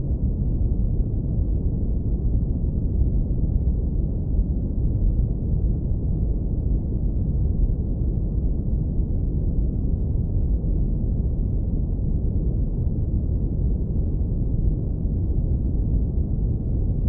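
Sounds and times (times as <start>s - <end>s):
deep brown noise rumble: 0.0s - 17.0s.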